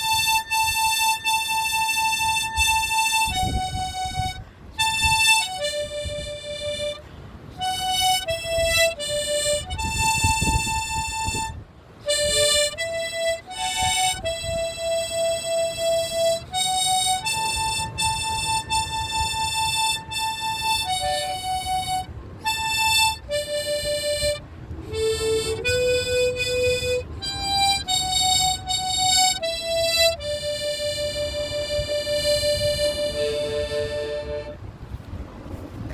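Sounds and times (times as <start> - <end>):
harmonica played slowly: 0.0 - 34.7.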